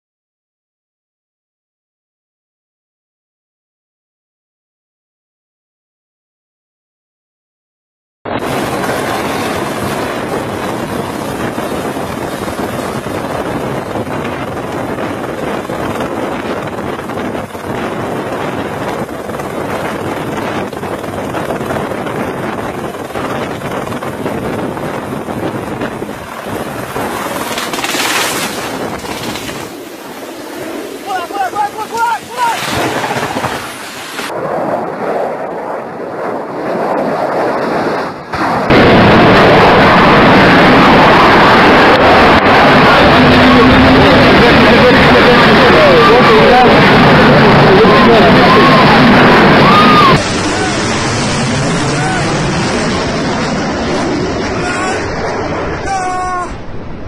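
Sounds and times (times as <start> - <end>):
helicopter hovering: 8.3 - 57.0
rough rumbling of crashing aircraft: 8.3 - 57.0
rotor downwash buffeting microphone: 8.4 - 36.0, 38.6 - 56.8.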